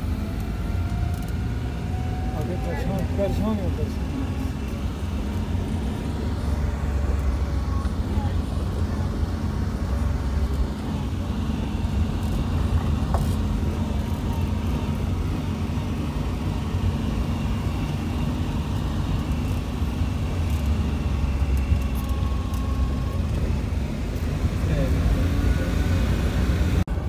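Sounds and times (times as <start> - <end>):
engine and tyre rumble: 0.0 - 27.0.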